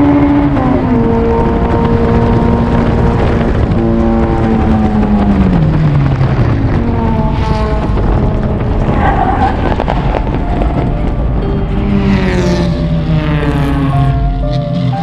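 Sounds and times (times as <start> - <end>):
race car engine running hard: 0.0 - 15.0
wind and road noise: 0.0 - 15.0.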